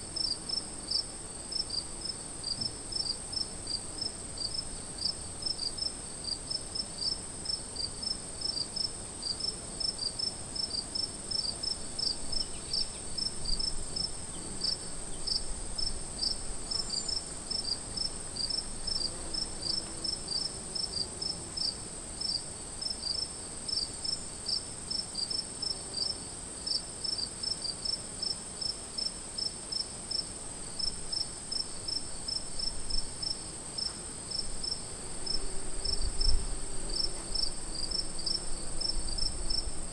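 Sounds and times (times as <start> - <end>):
crickets chirping: 0.2 - 21.0, 21.6 - 39.9.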